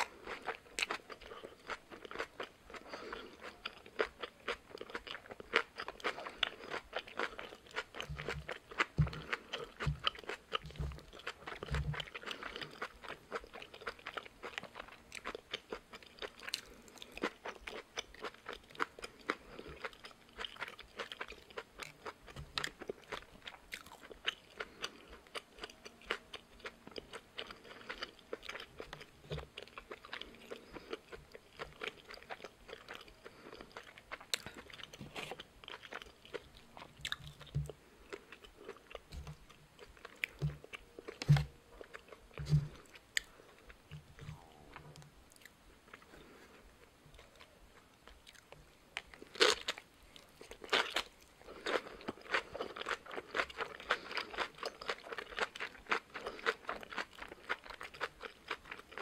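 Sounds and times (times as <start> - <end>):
crisp chewing and crunching: 0.0 - 59.0.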